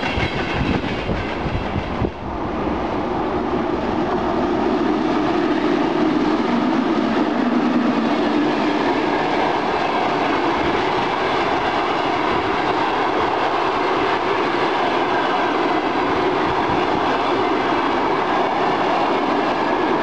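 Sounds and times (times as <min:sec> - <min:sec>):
train wheels rattling on rails: 0:00.0 - 0:20.0.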